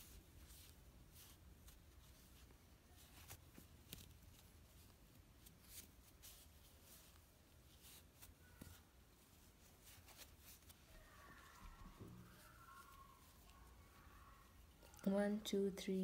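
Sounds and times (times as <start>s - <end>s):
crochet hook ticks and yarn rustles: 0.0s - 16.0s.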